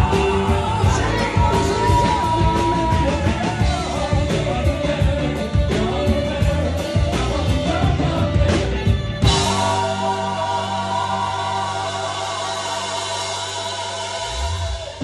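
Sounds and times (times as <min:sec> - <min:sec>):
drum kit beat: 0:00.0 - 0:15.0
lead vocal singing: 0:00.0 - 0:15.0
rock band playing: 0:00.0 - 0:15.0
saxophone: 0:00.0 - 0:15.0.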